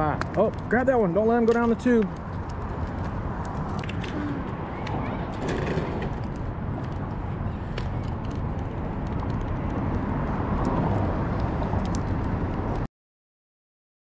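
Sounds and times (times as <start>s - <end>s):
wind rumble on microphone: 0.0s - 12.9s.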